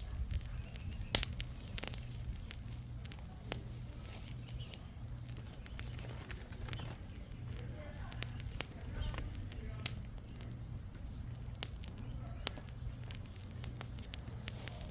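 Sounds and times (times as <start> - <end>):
campfire crackling and popping: 0.0 - 14.9
steady low rumble: 0.0 - 14.9.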